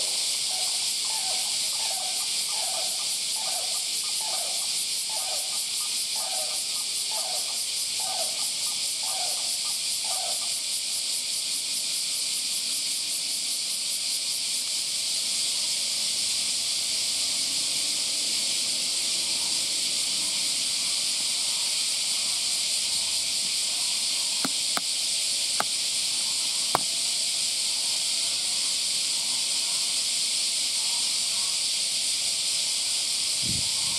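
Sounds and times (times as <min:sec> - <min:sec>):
cicadas chorus: 0:00.0 - 0:33.9.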